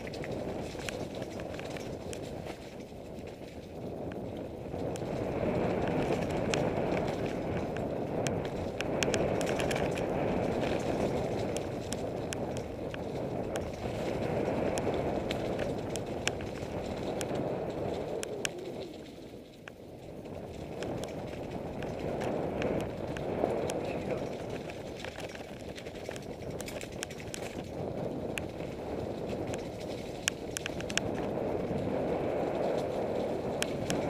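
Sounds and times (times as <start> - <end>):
bike clicking and rattling: 0.0 - 34.0
bike tyres rumbling over dirt trail: 0.0 - 34.0.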